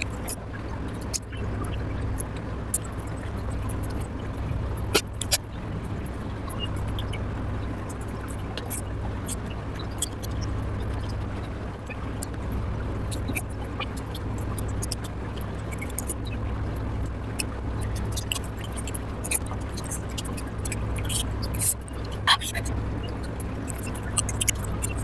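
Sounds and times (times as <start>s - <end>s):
mouth clicks and smacks: 0.0s - 25.0s
steady low hum: 0.0s - 25.0s.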